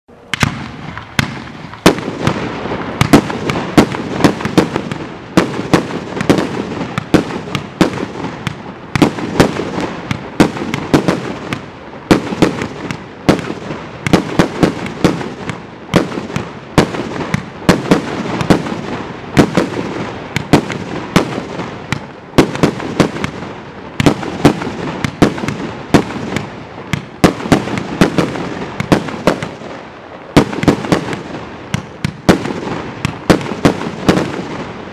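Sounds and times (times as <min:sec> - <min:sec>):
firework shells bursting with bangs: 0:00.3 - 0:34.9.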